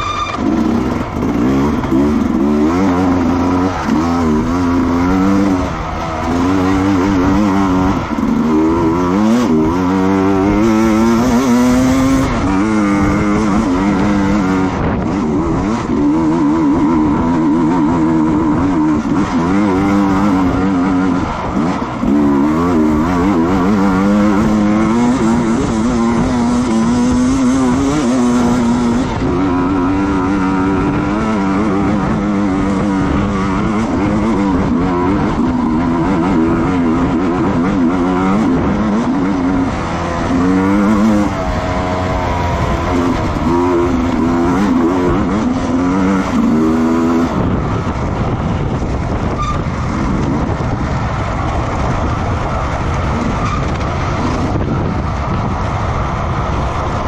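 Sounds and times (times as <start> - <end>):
racing motorcycle engines: 0.0 - 57.0.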